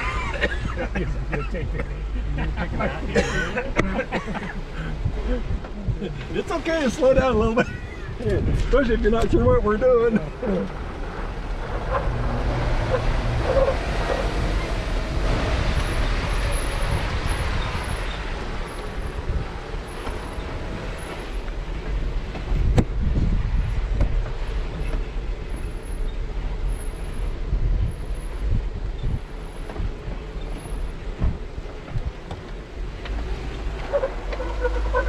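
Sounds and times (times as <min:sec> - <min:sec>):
tyre and wind noise: 0:00.0 - 0:35.0.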